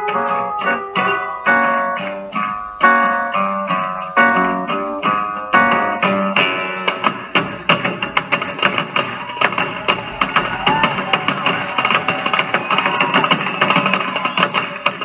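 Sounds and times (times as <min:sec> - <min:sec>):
acoustic guitar plucking and strumming: 0:00.0 - 0:15.0.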